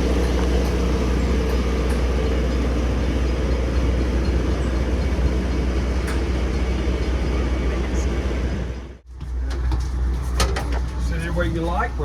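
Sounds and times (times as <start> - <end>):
train diesel engine idling: 0.0 - 10.2.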